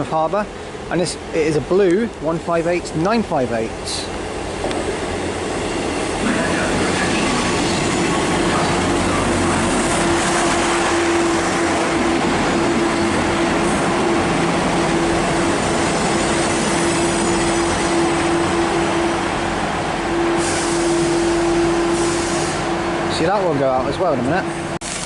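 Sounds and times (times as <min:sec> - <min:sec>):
diesel train rumble: 0:00.0 - 0:25.0.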